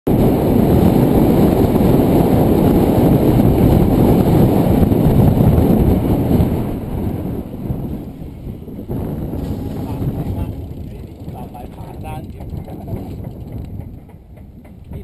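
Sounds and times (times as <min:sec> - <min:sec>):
wind on microphone: 0:00.1 - 0:15.0.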